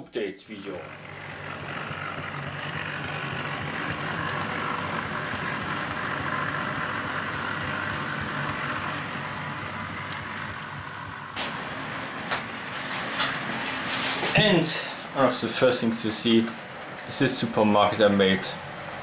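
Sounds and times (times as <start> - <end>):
model diesel locomotive engine: 0.0 - 19.0.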